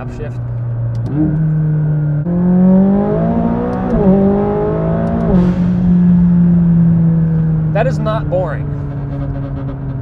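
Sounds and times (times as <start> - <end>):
sports car engine accelerating: 0.0 - 10.0.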